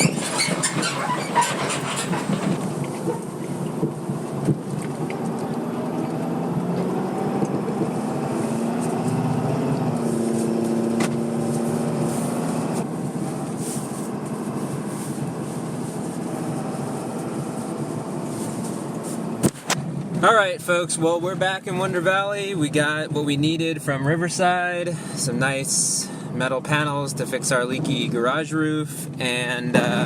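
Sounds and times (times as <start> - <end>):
road noise: 0.0 - 30.0
vehicle engine: 0.0 - 30.0.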